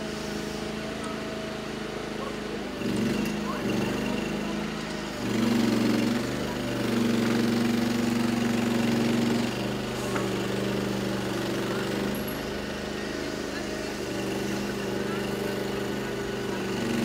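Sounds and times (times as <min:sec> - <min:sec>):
vehicle engine running under load: 0:00.0 - 0:17.0.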